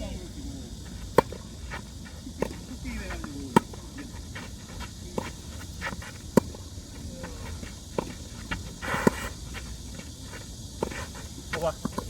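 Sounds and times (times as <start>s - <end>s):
players' footsteps: 0.0s - 12.0s.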